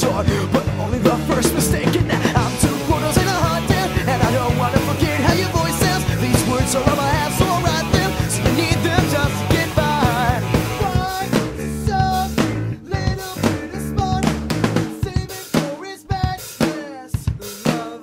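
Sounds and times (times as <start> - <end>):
rock music with drums: 0.0 - 18.0.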